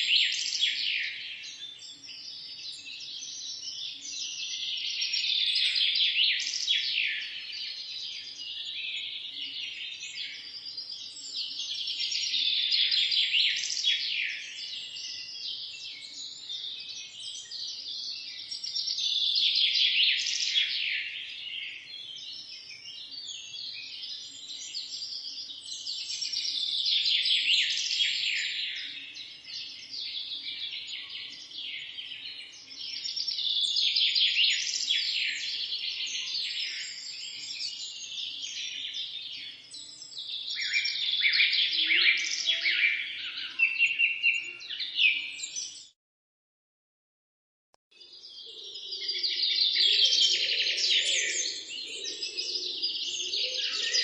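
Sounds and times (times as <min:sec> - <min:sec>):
small birds chirping and twittering: 0:00.0 - 0:46.0, 0:47.9 - 0:54.0.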